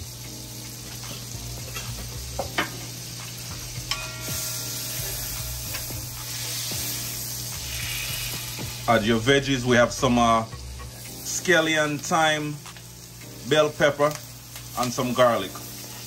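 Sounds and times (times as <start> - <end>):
butter sizzling in a pot: 0.0 - 16.0.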